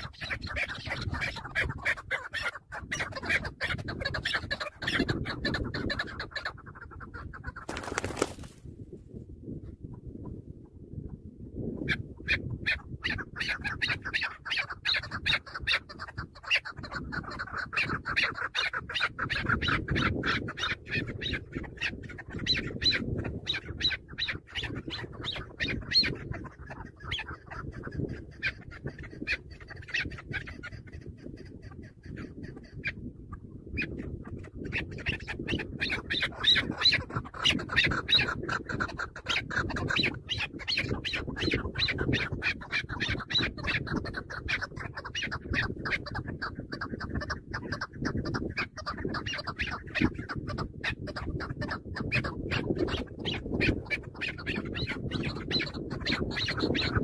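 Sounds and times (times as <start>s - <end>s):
partridge clucking calls: 0.0s - 8.6s, 11.0s - 57.0s.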